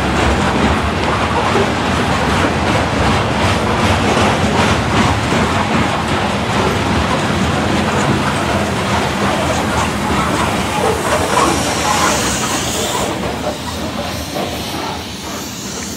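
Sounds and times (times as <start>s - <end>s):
train wheels rumbling and clicking: 0.0s - 15.9s.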